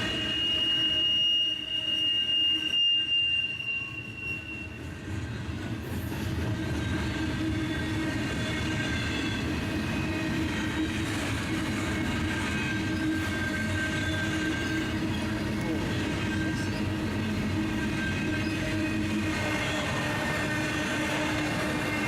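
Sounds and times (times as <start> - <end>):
freight train rumble: 0.0 - 22.0
steel wheel squeal: 0.0 - 22.0.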